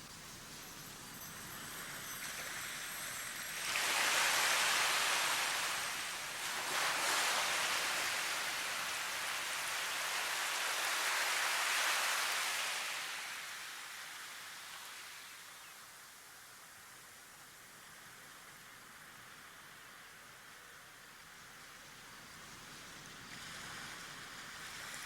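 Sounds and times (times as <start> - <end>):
rushing water: 1.4 - 25.0.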